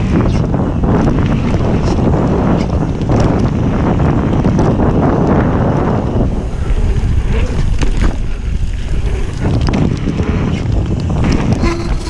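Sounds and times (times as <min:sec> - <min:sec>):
bike knocks and rattles: 0:00.0 - 0:12.0
bike tyres rolling on dirt: 0:00.0 - 0:12.0
wind buffeting microphone: 0:00.0 - 0:12.0.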